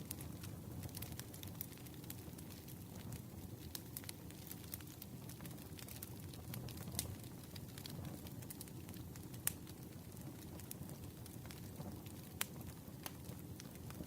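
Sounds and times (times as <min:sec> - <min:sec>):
campfire crackling: 0:00.0 - 0:14.0
sharp pops of burning wood: 0:00.0 - 0:14.0.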